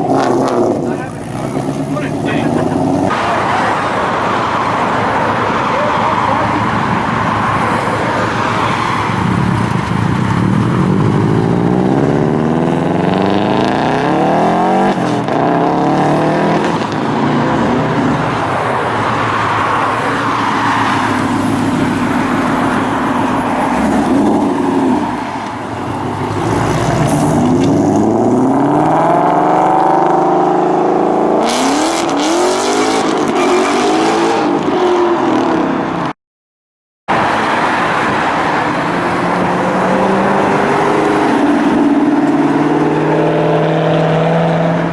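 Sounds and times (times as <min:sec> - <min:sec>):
cars accelerating away: 0:00.0 - 0:36.1, 0:37.1 - 0:44.9.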